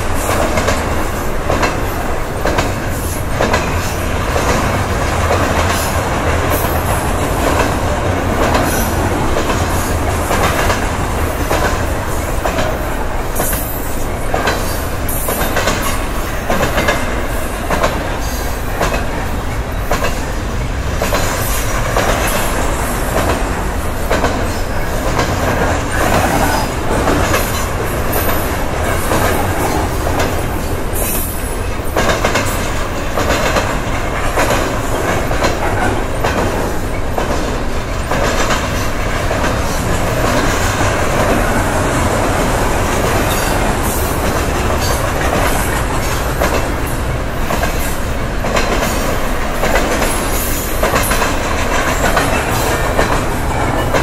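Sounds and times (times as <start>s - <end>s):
freight train wheels rumbling: 0.0s - 54.0s
wheels clicking over rail joints: 0.0s - 54.0s.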